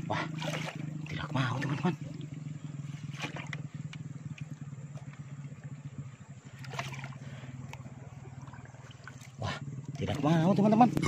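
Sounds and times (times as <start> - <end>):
low motor hum: 0.0 - 11.0
splashes in shallow water: 0.0 - 11.0.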